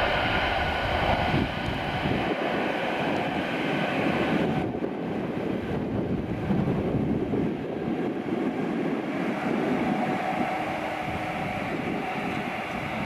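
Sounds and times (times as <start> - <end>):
jet engine whine: 0.0 - 13.0
jet engines roaring at take-off: 0.0 - 13.0.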